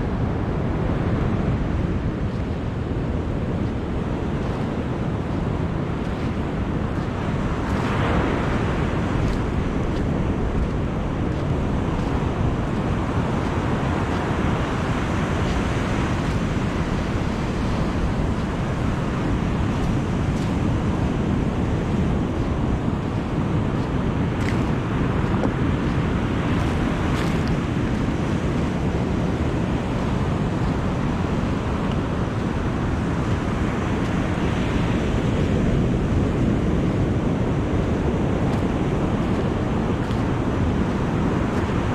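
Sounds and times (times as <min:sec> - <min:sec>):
wind buffeting microphone: 0:00.0 - 0:41.9
surf breaking on beach: 0:00.1 - 0:41.9.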